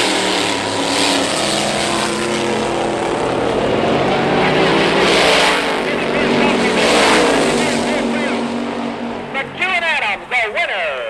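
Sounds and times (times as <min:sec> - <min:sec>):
dragster engines at full throttle: 0:00.0 - 0:11.0.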